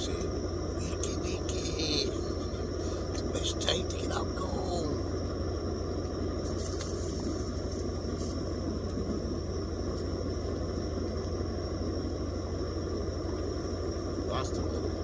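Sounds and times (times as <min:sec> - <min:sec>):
faint high whine: 0:00.0 - 0:15.0
low rumbling drone: 0:00.0 - 0:15.0.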